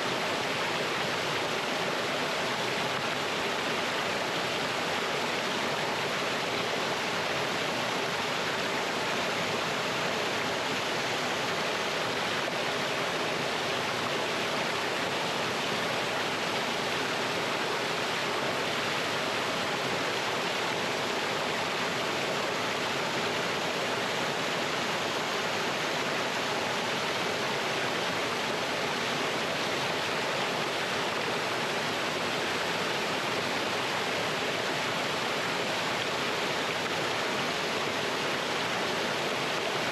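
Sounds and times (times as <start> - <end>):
stream pouring over rocks: 0.0 - 39.9.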